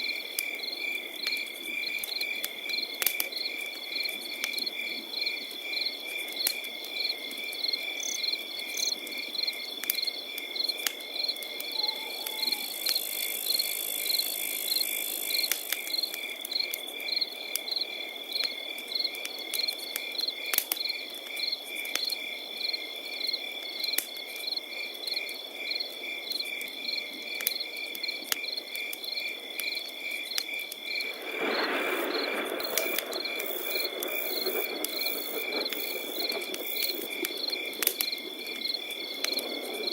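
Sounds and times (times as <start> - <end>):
campfire crackles and pops: 0.0 - 39.9
crickets chirping: 0.0 - 39.9.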